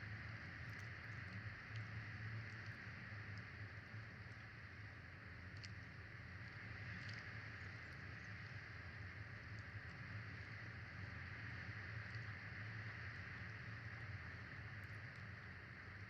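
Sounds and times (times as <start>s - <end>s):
faint ticks: 0.0s - 16.0s.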